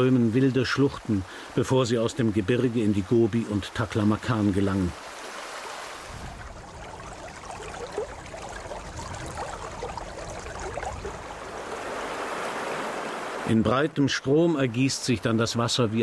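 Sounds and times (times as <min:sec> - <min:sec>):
rushing mountain stream: 0:00.0 - 0:16.0.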